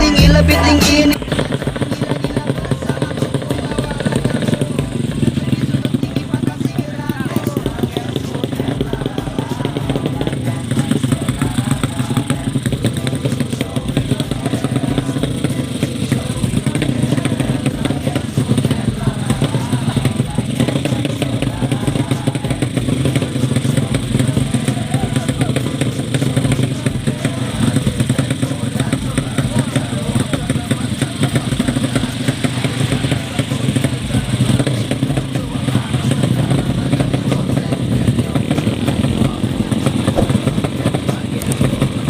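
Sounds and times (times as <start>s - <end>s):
motorcycle engines running: 0.0s - 42.0s
voices in background: 0.0s - 42.0s.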